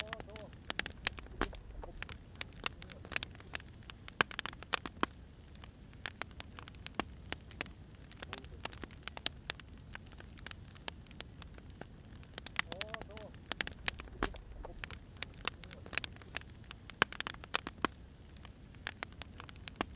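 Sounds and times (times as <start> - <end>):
firewood burning and crackling: 0.0 - 19.9.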